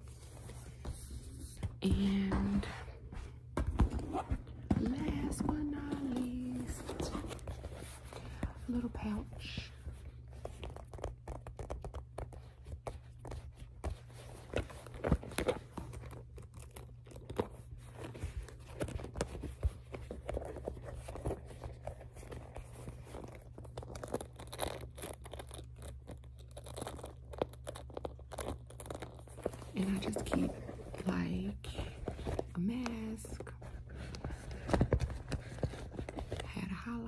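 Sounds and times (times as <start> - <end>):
fingers handling leather pouch: 3.9 - 31.1, 33.4 - 36.5.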